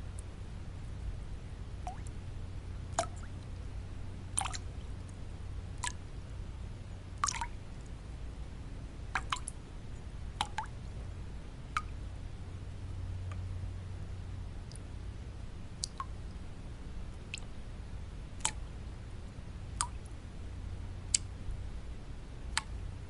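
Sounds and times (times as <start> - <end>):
low white-noise rumble: 0.0 - 23.0.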